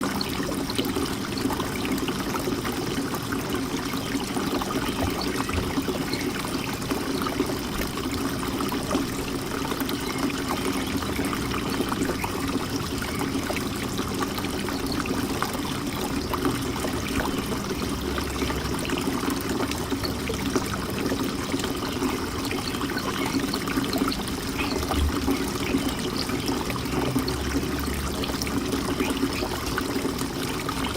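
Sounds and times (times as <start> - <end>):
water trickling and splashing: 0.0 - 30.9.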